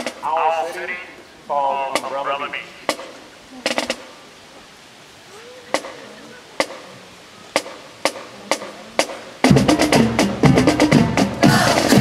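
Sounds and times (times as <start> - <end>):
marching band with brass and drums: 0.0 - 4.2, 5.7 - 12.0.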